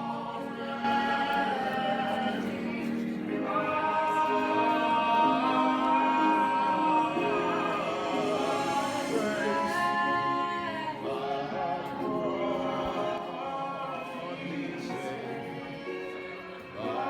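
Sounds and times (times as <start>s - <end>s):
operatic singing with vibrato: 0.0s - 17.0s.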